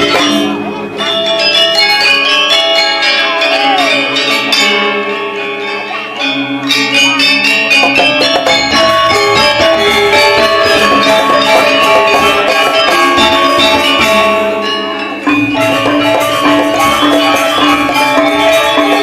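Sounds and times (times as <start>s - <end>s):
gamelan ensemble playing: 0.0s - 19.0s
metallophones and gongs ringing: 0.0s - 19.0s.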